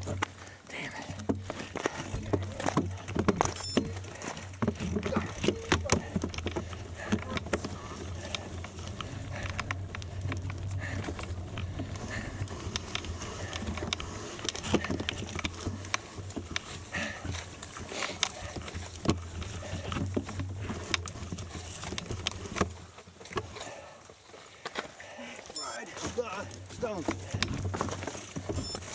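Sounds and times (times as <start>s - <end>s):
bicycle clicks and rattles: 0.0s - 28.9s
tyres crunching on gravel: 0.0s - 28.9s.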